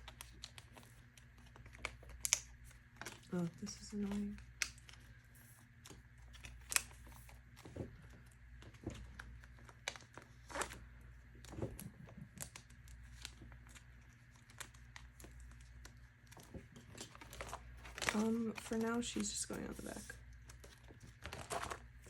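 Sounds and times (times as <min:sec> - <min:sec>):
plastic sleeves crinkling: 0:00.0 - 0:22.0.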